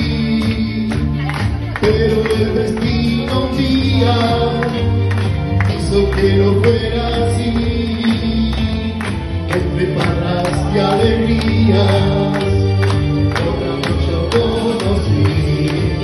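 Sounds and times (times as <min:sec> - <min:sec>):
backing music with steady beat: 0:00.0 - 0:16.0
man singing into microphone: 0:00.0 - 0:16.0.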